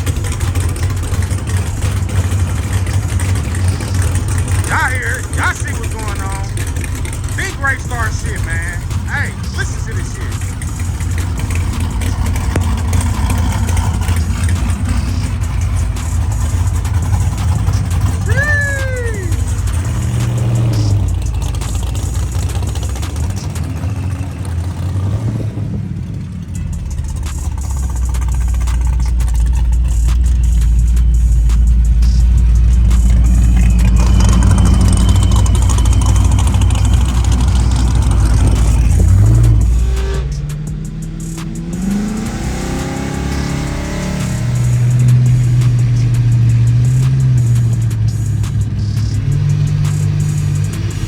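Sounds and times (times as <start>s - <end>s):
race car engine rumbling: 0.0s - 51.0s
rising and falling whine: 0.0s - 51.0s.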